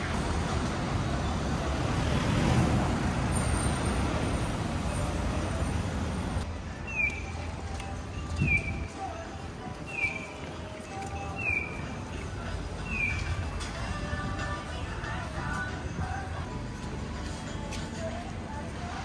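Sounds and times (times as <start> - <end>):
trucks and vans passing: 0.0 - 19.0.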